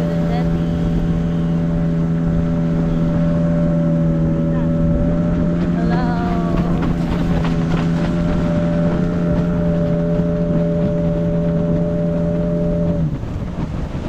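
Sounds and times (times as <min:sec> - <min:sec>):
outboard motor running: 0:00.0 - 0:14.0
wind buffeting microphone: 0:00.0 - 0:14.0.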